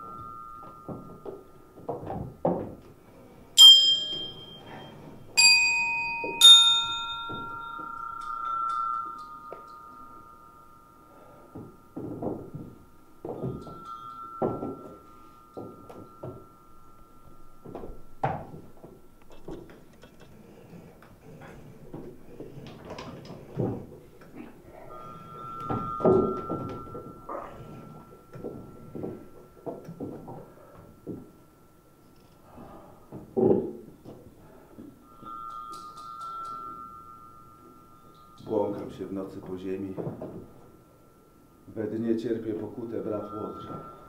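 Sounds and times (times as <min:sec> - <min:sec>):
metal chimes ringing: 0:00.0 - 0:20.0, 0:21.0 - 0:44.0.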